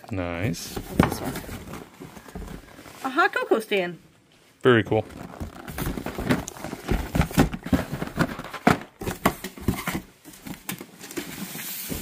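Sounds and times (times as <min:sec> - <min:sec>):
cardboard boxes knocking and rustling: 0:00.5 - 0:03.2, 0:05.0 - 0:12.0.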